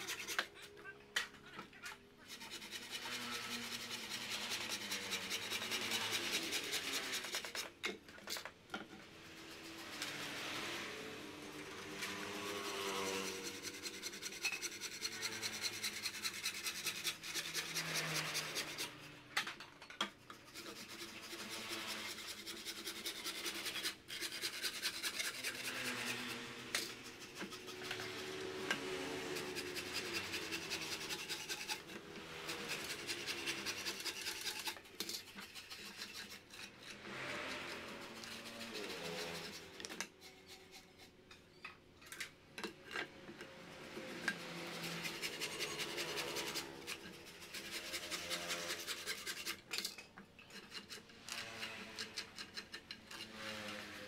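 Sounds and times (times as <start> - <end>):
hand saw cutting bamboo: 0.0 - 0.6, 2.2 - 8.4, 9.2 - 19.2, 20.3 - 41.2, 44.0 - 54.0.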